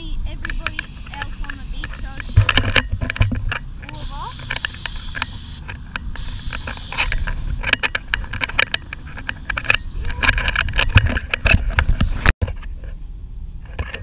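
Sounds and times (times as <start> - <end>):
wind noise on microphone: 0.0 - 14.0
sharp clicks and knocks: 0.4 - 12.7.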